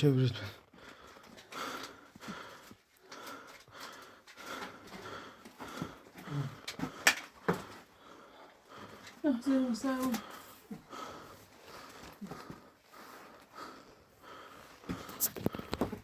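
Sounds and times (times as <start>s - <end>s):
person panting: 0.7s - 9.2s, 10.1s - 15.8s.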